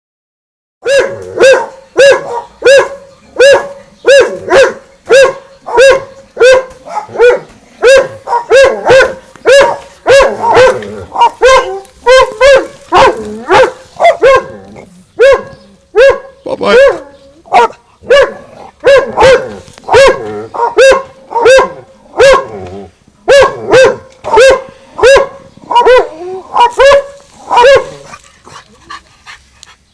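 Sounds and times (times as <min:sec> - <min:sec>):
dogs barking: 0:00.8 - 0:22.6, 0:23.3 - 0:29.0.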